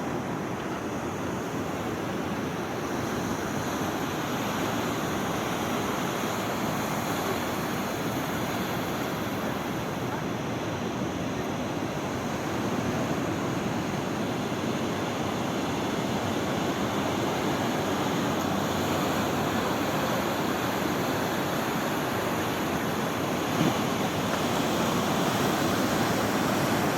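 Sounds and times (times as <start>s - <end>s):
waves rushing: 0.0s - 26.9s.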